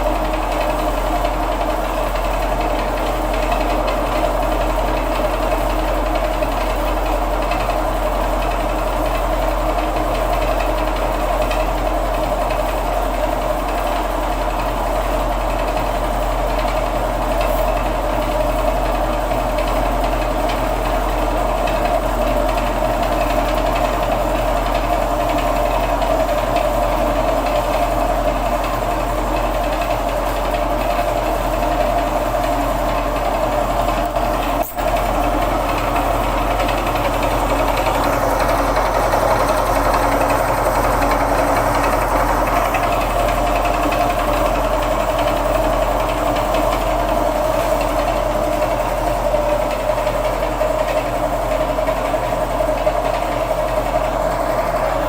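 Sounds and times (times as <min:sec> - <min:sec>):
small machine whirring and rattling: 0:00.0 - 0:55.0.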